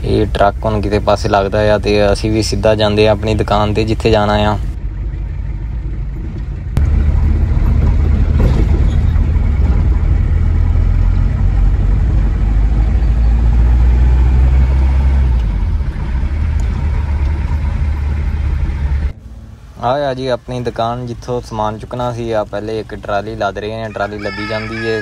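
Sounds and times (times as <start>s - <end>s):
pickup engine and road noise in cab: 0.0s - 25.0s.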